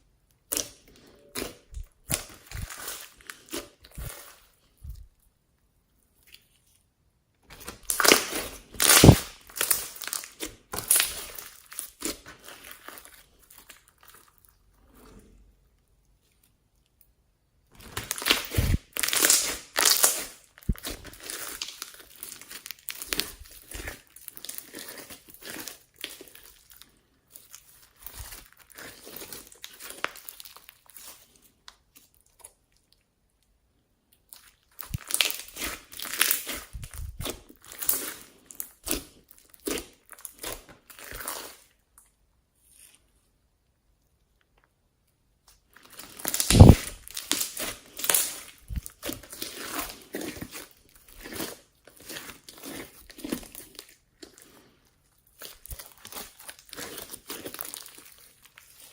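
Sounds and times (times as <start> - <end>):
slime crackling and crunching: 0.5 - 5.1, 7.5 - 15.3, 17.7 - 32.9, 34.2 - 42.0, 45.6 - 58.9.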